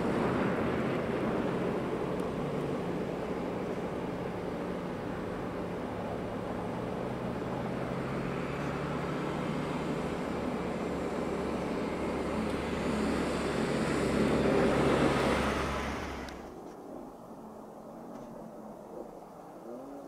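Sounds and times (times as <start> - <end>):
cars driving past on snowy road: 0.0 - 20.0.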